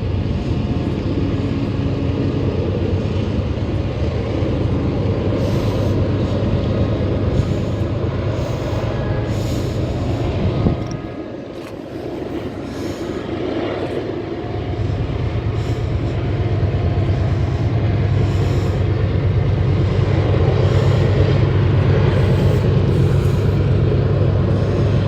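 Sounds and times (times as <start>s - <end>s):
diesel locomotive drone: 0.0s - 25.0s.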